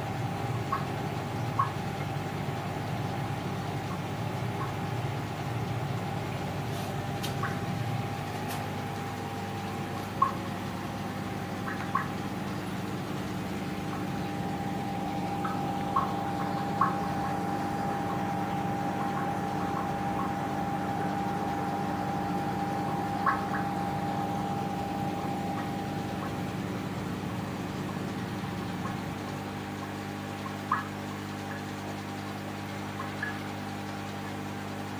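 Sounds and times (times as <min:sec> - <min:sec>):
aquarium pump humming: 0:00.0 - 0:34.9.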